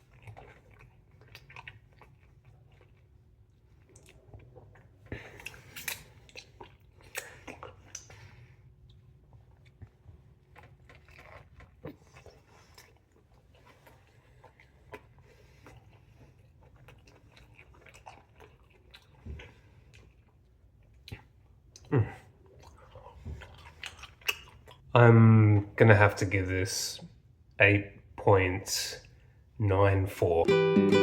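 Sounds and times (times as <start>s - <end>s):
biting and chewing food: 0.0s - 24.9s.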